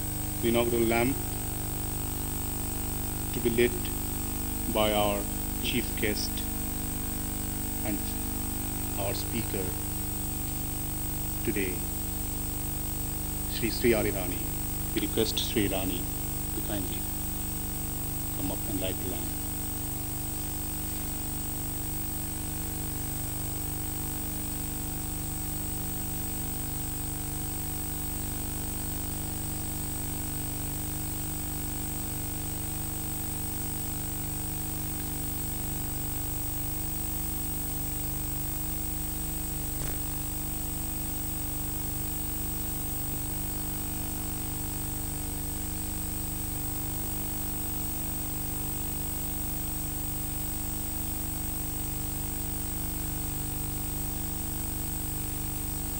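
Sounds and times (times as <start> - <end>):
recording hum and hiss: 0.0 - 55.9.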